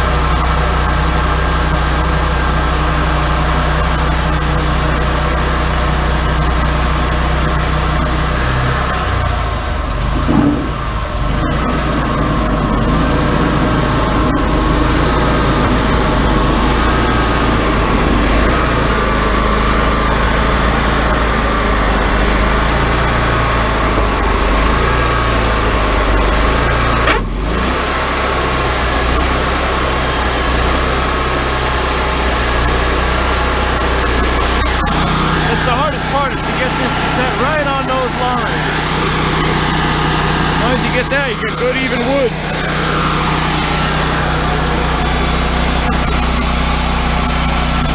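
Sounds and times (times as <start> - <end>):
band saw whine: 0.0 - 47.9
sawmill engine running: 0.0 - 47.9.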